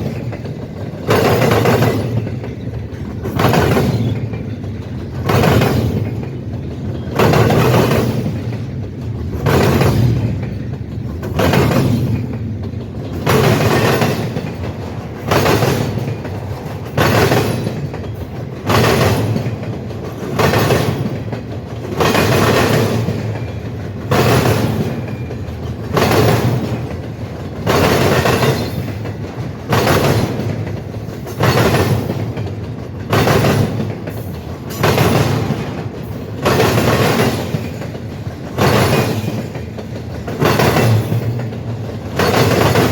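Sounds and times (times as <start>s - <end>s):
train rumble: 0.0s - 42.9s
train wheels clacking on track: 0.0s - 42.9s.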